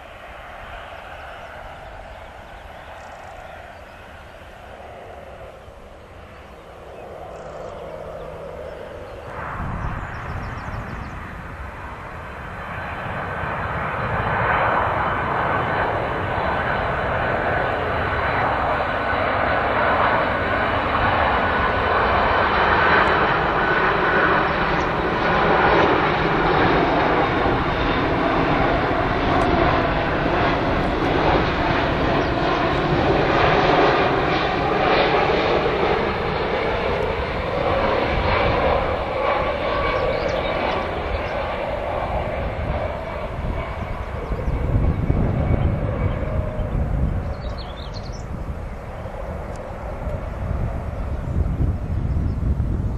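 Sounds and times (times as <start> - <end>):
jet airliner engines passing: 0.0 - 52.9.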